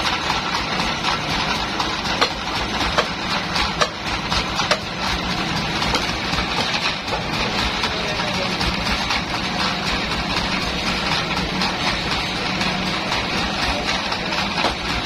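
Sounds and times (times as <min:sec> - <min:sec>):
band sawmill idling: 0:00.0 - 0:15.0.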